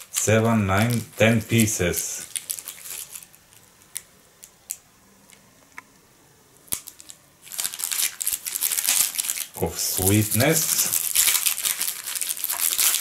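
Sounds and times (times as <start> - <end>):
cellophane clicks and crackles: 0.0 - 5.4, 6.6 - 13.0
cellophane crinkling: 0.0 - 5.4, 6.6 - 13.0.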